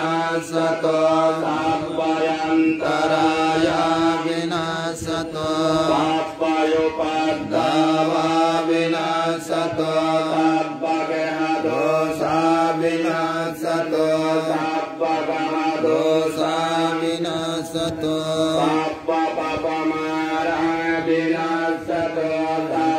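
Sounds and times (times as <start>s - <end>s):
monks chanting into a microphone: 0.0s - 22.9s.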